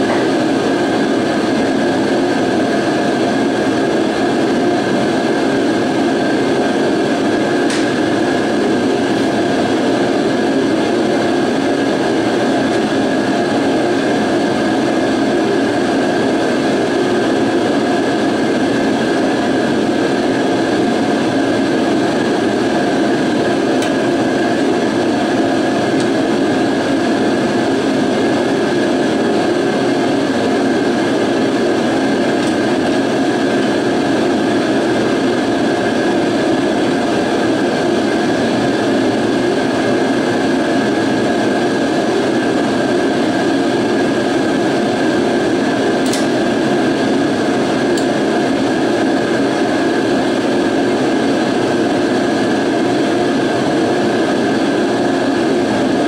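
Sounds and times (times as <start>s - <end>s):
shop heater droning: 0.0s - 56.0s.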